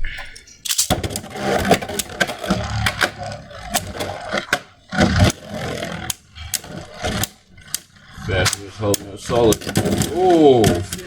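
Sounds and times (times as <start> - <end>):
spinning tops clashing clacks: 0.7 - 11.0
spinning tops whirring and scraping: 0.7 - 11.0.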